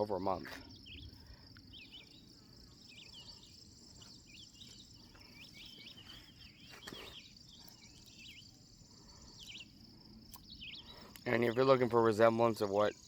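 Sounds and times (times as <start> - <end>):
bird chirps: 0.0 - 13.0
insects trilling: 0.0 - 13.0.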